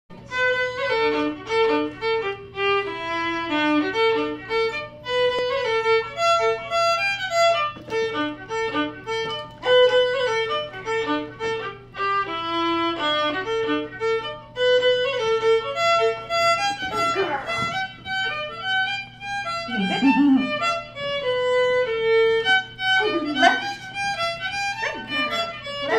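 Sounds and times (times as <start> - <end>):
solo fiddle playing quick notes: 0.2 - 25.9.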